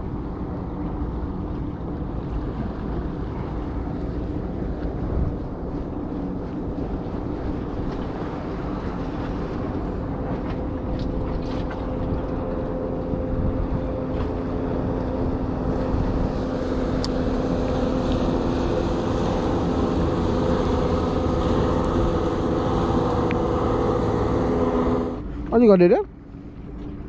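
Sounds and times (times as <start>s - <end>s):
low engine drone: 0.0s - 27.0s
wind buffeting microphone: 0.0s - 27.0s.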